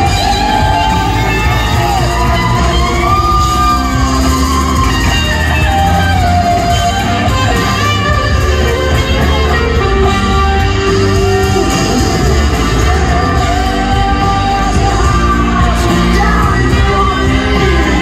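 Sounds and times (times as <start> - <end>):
bass: 0.0 - 18.0
drums: 0.0 - 18.0
electric guitar lead: 0.0 - 18.0.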